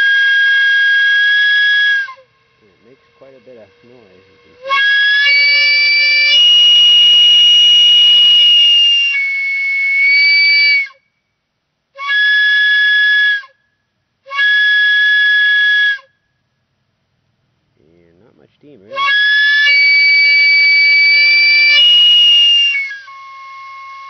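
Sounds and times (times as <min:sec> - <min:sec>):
steam whistle blasts: 0:00.0 - 0:11.2, 0:12.0 - 0:16.2, 0:18.9 - 0:24.0.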